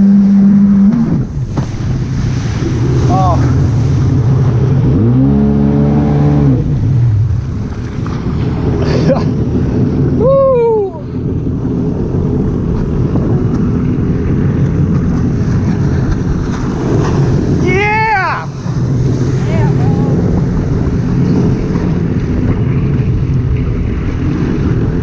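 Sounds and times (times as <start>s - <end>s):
jet ski engine running: 0.0s - 25.0s
wind and water noise: 0.0s - 25.0s.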